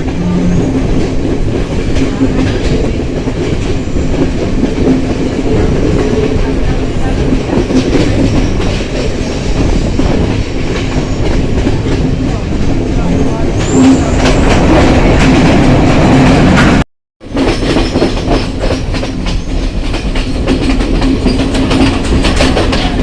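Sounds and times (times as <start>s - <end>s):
train wheels clattering over rail joints: 0.6s - 12.8s, 13.6s - 23.0s.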